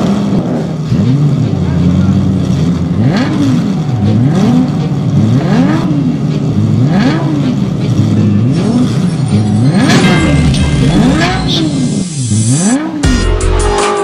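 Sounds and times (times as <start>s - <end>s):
engine revving: 0.0s - 14.0s
steady low drone: 0.0s - 14.0s.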